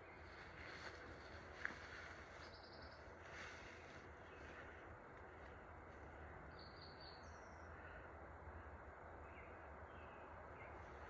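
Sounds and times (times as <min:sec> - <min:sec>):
faint outdoor background noise: 0:00.0 - 0:11.0.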